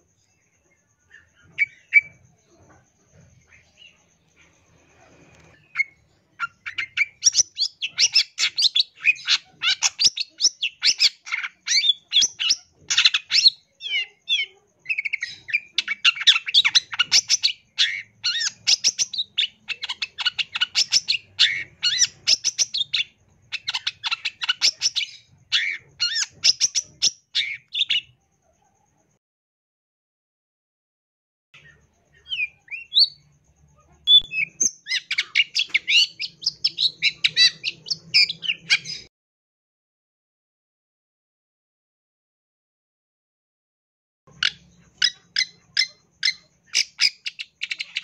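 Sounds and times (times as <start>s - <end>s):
bird singing rapid varied song: 0.0s - 28.4s, 31.6s - 39.1s, 44.3s - 48.0s.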